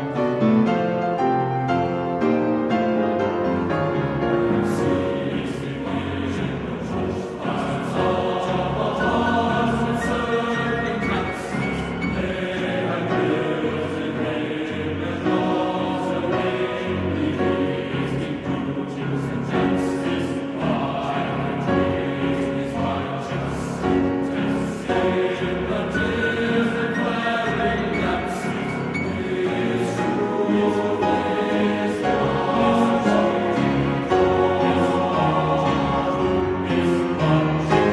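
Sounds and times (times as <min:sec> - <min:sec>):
choir singing sustained chords: 0:00.0 - 0:37.9.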